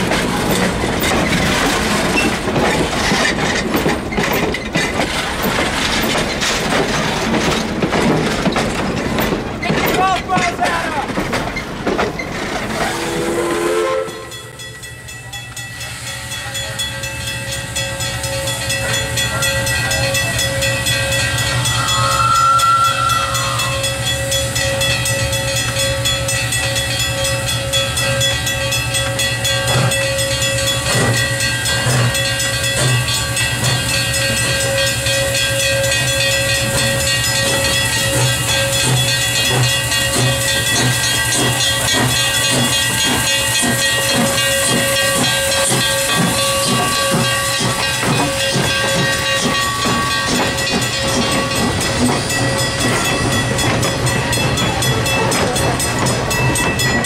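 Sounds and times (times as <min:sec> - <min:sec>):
locomotive venting steam: 0:00.0 - 0:14.6, 0:15.2 - 0:56.9.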